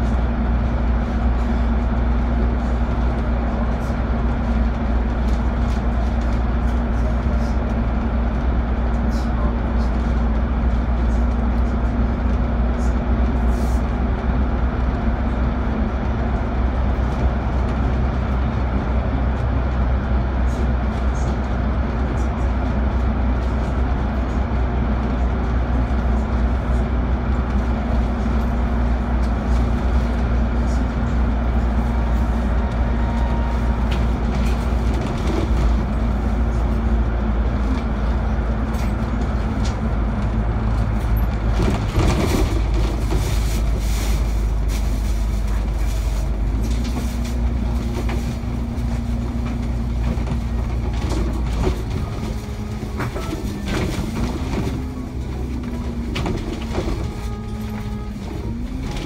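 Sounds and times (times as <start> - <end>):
bus engine drone: 0.0 - 59.0
tyre and road noise: 0.0 - 59.0.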